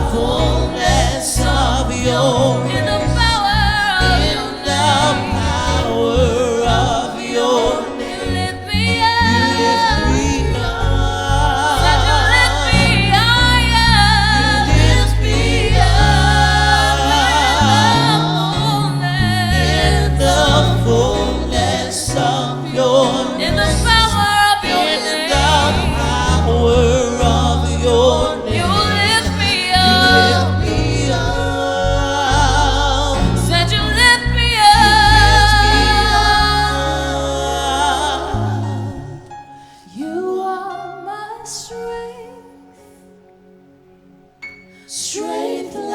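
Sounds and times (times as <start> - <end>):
steady bass line: 0.0 - 7.1, 8.3 - 39.2
instrumental backing: 0.0 - 39.8
gospel voices singing with vibrato: 0.0 - 45.9.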